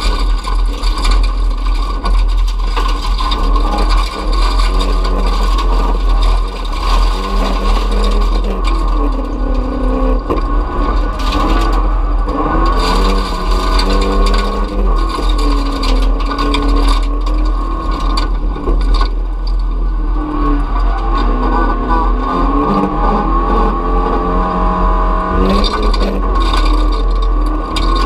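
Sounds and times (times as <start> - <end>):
sharp clatters and knocks: 0.0 - 23.4, 25.3 - 28.0
car body rattling: 0.0 - 28.0
car engine revving: 0.0 - 28.0.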